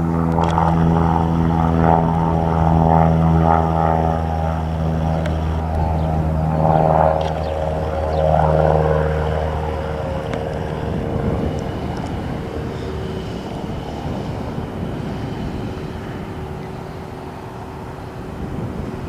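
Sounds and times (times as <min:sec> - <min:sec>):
propeller airplane passing: 0:00.0 - 0:19.0.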